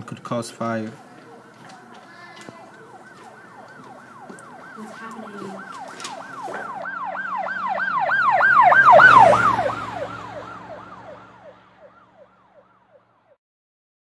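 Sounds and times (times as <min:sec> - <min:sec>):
emergency siren yelping: 0:01.0 - 0:13.4.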